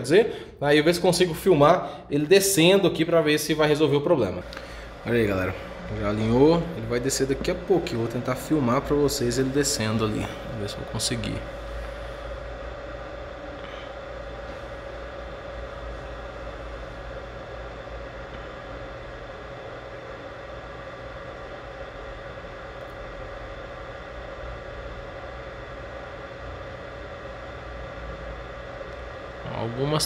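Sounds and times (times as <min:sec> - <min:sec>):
hot-air blower and fans whirring: 0:00.0 - 0:30.0.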